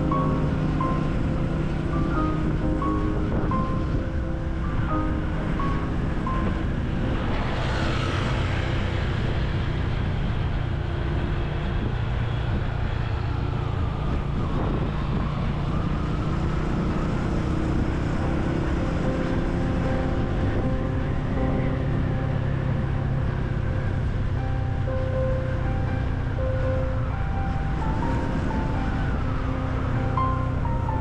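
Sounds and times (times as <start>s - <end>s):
falling whoosh of passing traffic: 0.0s - 31.0s
motorcycle running: 0.0s - 31.0s
road and wind noise: 0.0s - 31.0s.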